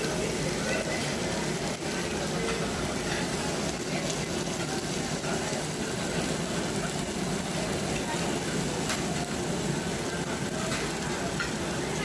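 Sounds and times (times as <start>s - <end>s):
faint indistinct voices: 0.0s - 12.0s
restaurant background noise: 0.0s - 12.0s.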